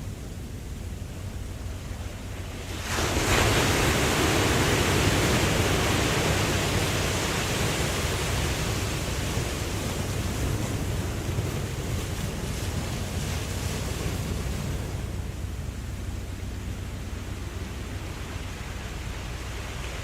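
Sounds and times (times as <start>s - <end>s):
low steady surf rumble: 0.0s - 20.0s
ocean wave breaking: 0.9s - 20.0s.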